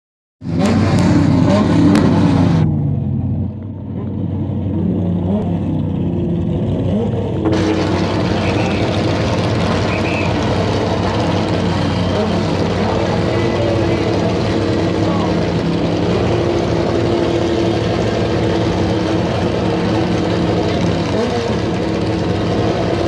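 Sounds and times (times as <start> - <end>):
car engine revving: 0.4 - 23.0.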